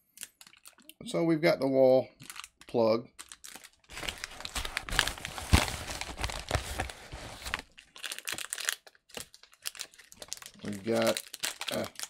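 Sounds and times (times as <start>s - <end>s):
plastic bag crinkling: 2.2s - 12.0s.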